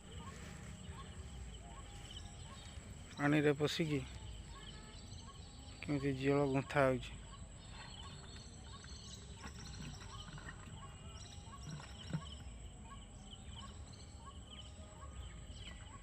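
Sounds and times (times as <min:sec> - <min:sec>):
riverside ambience: 0:00.0 - 0:16.0.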